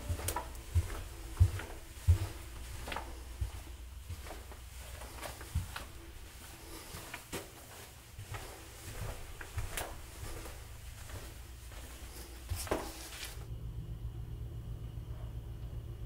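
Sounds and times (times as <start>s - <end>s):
low hum: 0.0s - 7.0s, 8.1s - 16.0s
footsteps: 0.0s - 13.5s.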